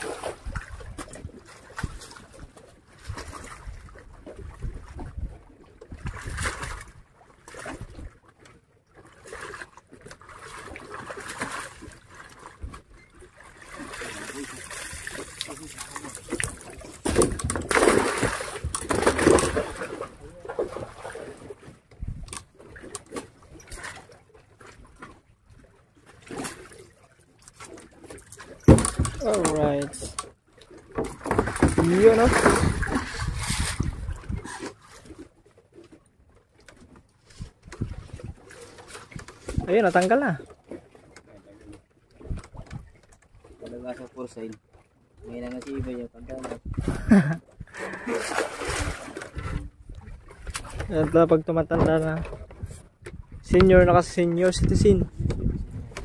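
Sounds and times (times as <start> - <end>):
water splashing around boat: 0.0 - 56.0.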